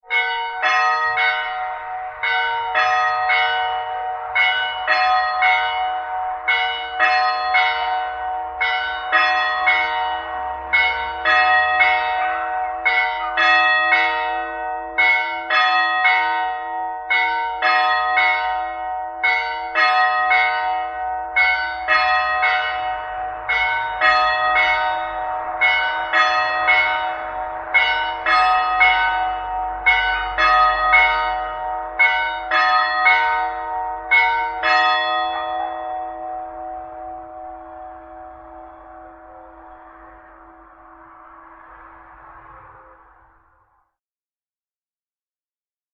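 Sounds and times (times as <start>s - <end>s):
church bell ringing: 0.0s - 41.9s.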